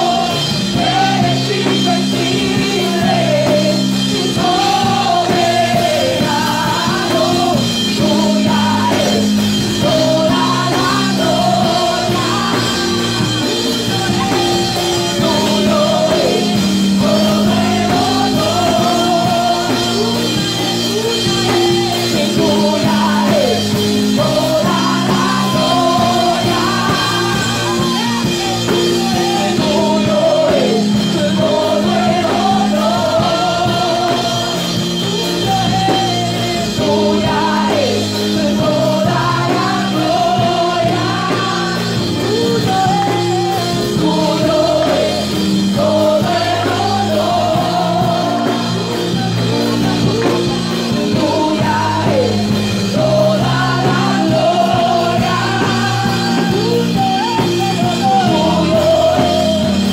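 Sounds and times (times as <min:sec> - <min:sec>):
drums: 0:00.0 - 0:59.9
held keyboard chords: 0:00.0 - 0:59.9
person singing: 0:00.0 - 0:59.9.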